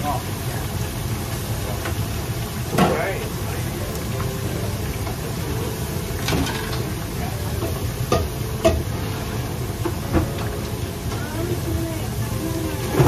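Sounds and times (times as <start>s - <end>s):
range hood and burner rumble: 0.0s - 13.0s.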